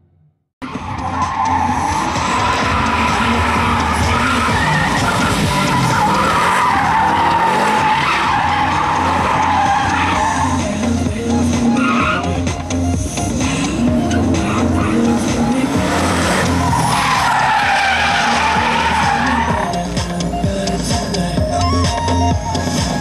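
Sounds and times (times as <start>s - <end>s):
car tyres squealing: 0.6s - 20.4s
car engine droning: 0.6s - 23.0s.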